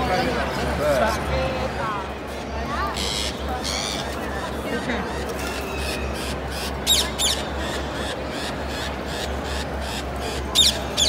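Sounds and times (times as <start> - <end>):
indoor hall hubbub: 0.0 - 11.0.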